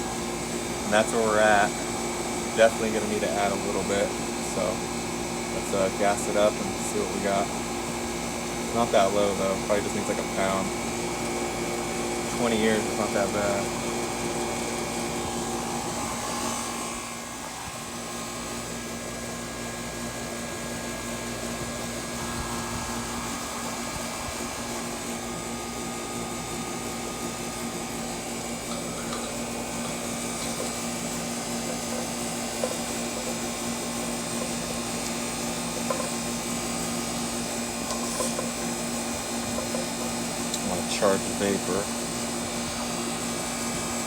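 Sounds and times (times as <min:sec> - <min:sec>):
compressor hum: 0:00.0 - 0:44.0
condenser fan rushing: 0:00.0 - 0:44.0.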